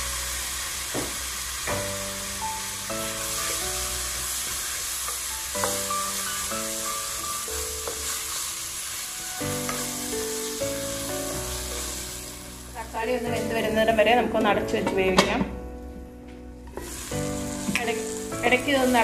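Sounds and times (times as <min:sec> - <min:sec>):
food sizzling in a frying pan: 0:00.0 - 0:14.4, 0:16.6 - 0:19.0
background music with held chords: 0:01.5 - 0:08.4, 0:09.0 - 0:19.0.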